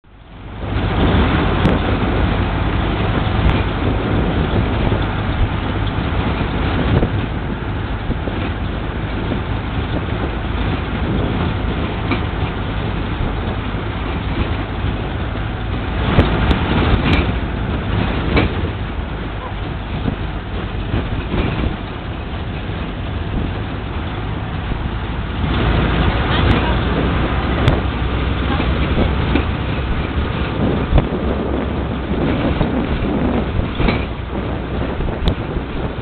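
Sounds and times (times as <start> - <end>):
truck engine and tyres rumbling: 0.0 - 36.0.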